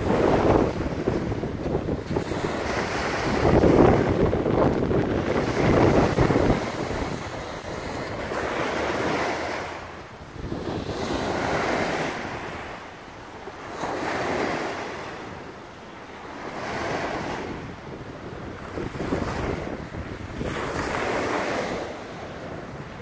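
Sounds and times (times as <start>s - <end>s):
waves washing up a beach: 0.0s - 23.0s
wind rumble on microphone: 0.0s - 23.0s.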